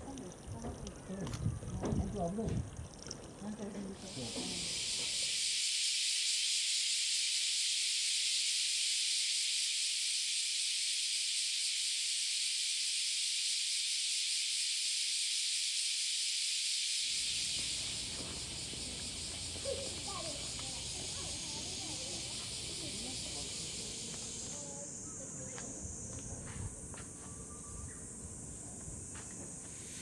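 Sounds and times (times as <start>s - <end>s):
insect chorus shrilling: 3.4s - 30.0s.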